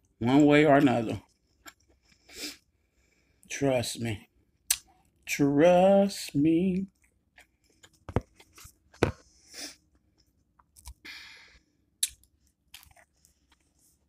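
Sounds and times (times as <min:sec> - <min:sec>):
person chewing and crunching food: 0:00.0 - 0:03.5, 0:04.4 - 0:11.0, 0:11.7 - 0:14.0.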